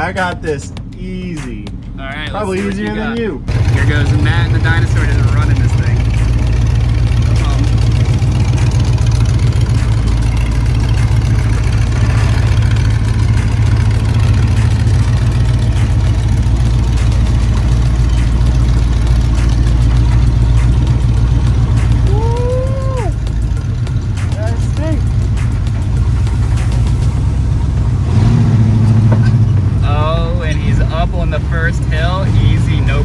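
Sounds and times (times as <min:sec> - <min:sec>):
truck engine deep rumble: 0:00.0 - 0:33.0.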